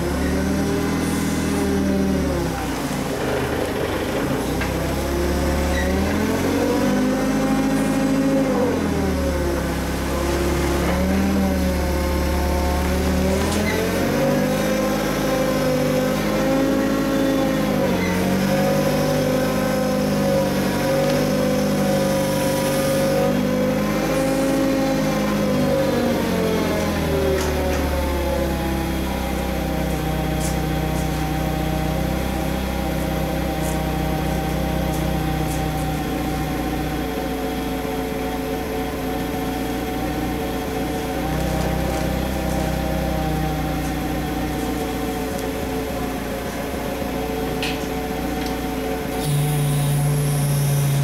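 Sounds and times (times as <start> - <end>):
forklift engine running: 0.0 - 51.0.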